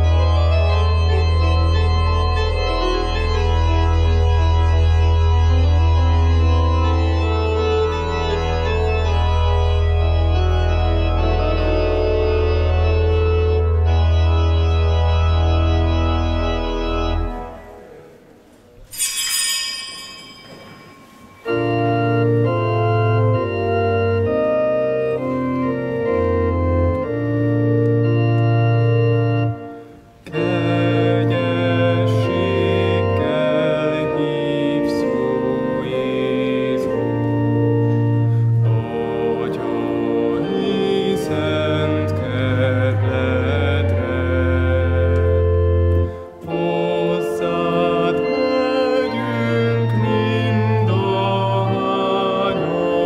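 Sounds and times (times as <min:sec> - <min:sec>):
organ music in slow chords: 0:00.0 - 0:18.6, 0:20.6 - 0:53.0.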